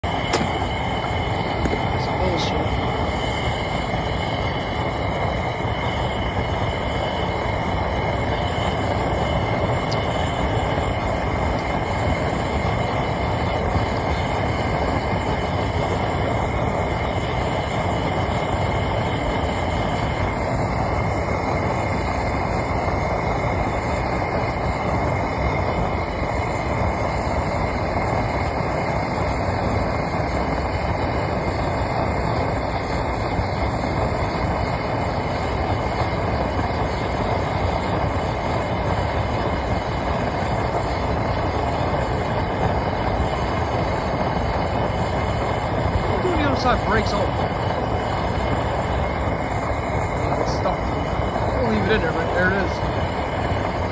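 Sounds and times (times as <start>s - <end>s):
furnace burner roaring: 0.0s - 53.9s.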